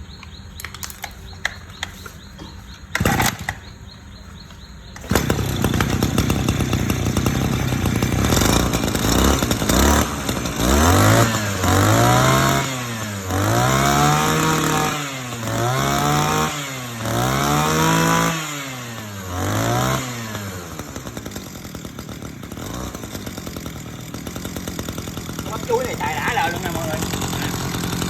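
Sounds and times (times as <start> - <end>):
two-stroke engine revving: 2.9 - 3.8, 4.9 - 28.0.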